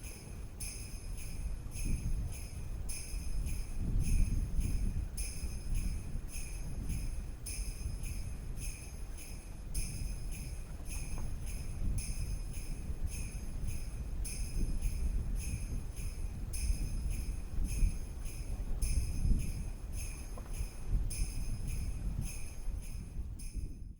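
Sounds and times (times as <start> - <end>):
sleigh bells jingling: 0.0 - 23.9.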